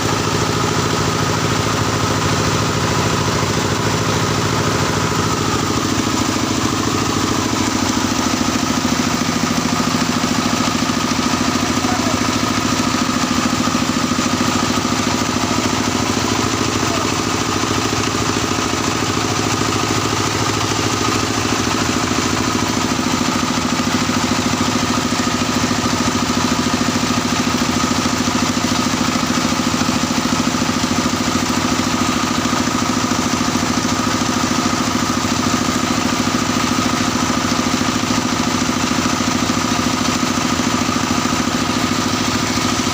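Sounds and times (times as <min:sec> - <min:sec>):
drilling rig engine running: 0:00.0 - 0:42.9.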